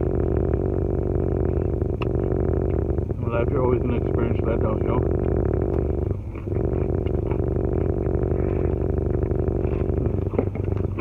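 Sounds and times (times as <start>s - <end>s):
car engine hum from inside: 0.0s - 11.0s.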